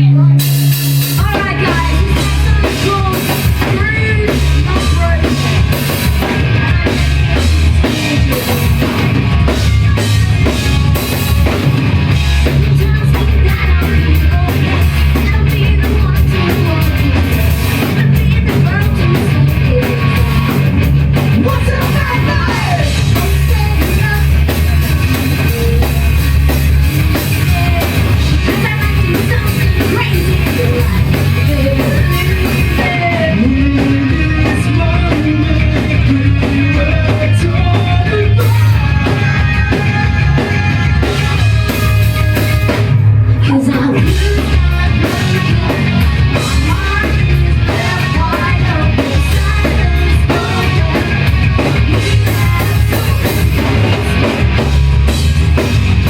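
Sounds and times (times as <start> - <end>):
person singing: 0.0 - 20.7, 21.3 - 42.8, 43.4 - 54.3
bass guitar: 0.0 - 56.0
distorted guitars: 0.0 - 56.0
drum kit: 0.0 - 56.0.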